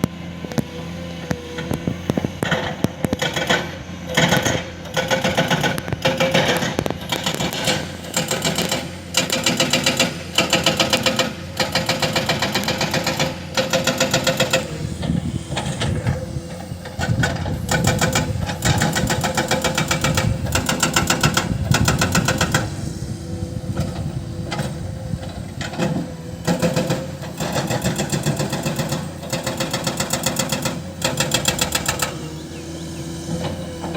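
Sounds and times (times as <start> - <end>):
excavator diesel engine running: 0.0 - 33.9
hydraulic breaker hammering rock: 0.0 - 33.9.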